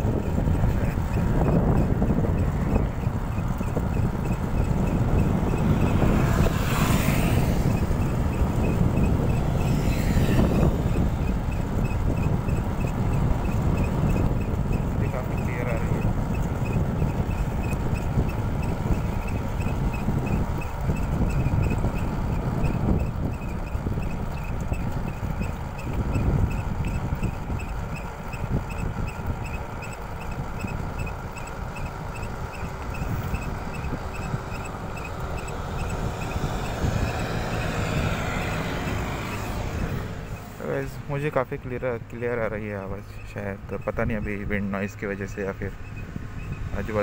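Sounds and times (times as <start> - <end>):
disc brake chirping: 0.0 - 47.0
motorcycle engine: 0.0 - 47.0
wind: 0.0 - 47.0.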